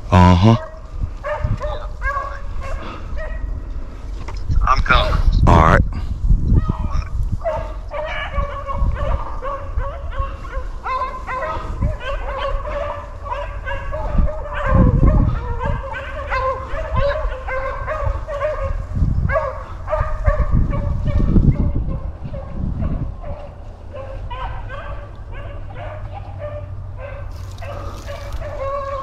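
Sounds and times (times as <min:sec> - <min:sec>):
dogs baying: 0:00.1 - 0:03.7, 0:06.6 - 0:29.0.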